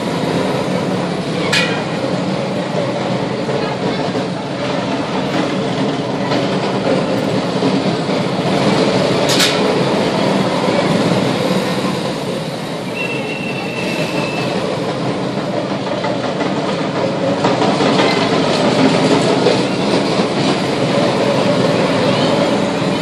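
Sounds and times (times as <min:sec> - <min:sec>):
bumper cars moving on concrete: 0:00.0 - 0:23.0.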